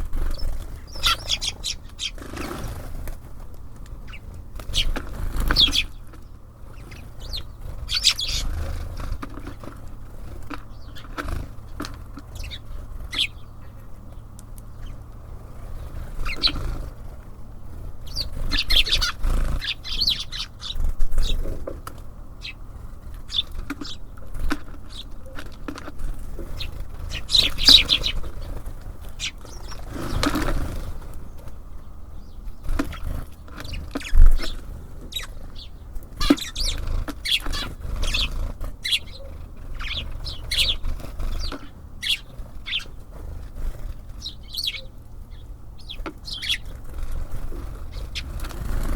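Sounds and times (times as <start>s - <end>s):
birds landing knocks: 0.0s - 13.3s, 17.8s - 31.7s, 32.6s - 44.4s, 45.8s - 48.9s
wing flutters: 0.0s - 31.7s, 32.5s - 45.1s, 45.8s - 48.9s
birds chirping: 0.0s - 48.9s.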